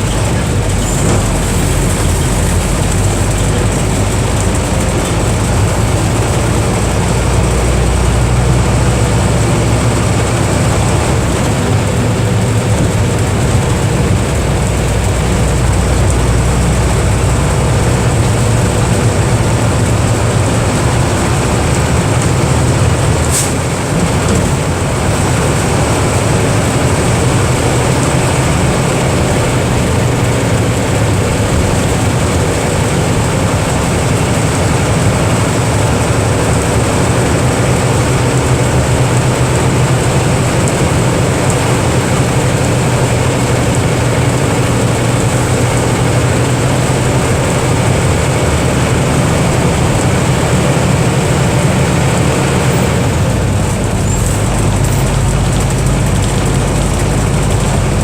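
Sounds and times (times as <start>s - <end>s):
diesel bus engine running: 0.0s - 58.0s.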